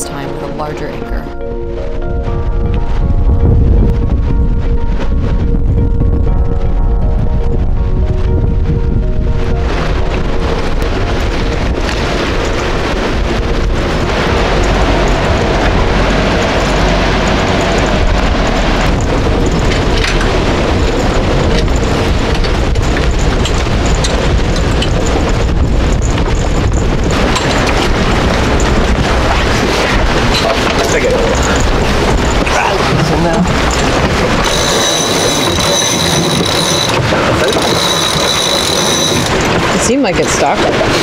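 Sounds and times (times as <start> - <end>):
storm wind buffeting microphone: 0.0 - 41.0.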